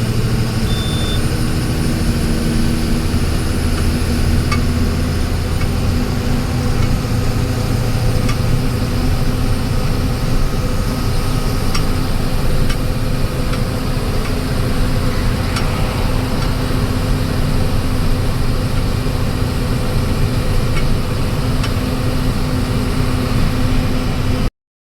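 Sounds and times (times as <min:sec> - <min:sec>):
low road noise: 0:00.0 - 0:24.5
vehicle engine hum: 0:00.0 - 0:24.5.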